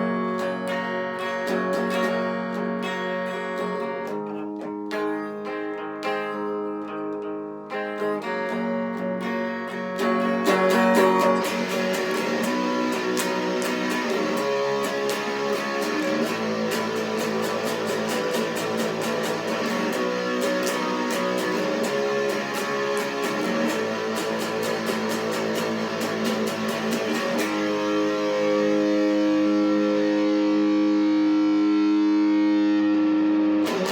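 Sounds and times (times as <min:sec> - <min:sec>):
electric guitar through amplifier: 0:00.0 - 0:33.9.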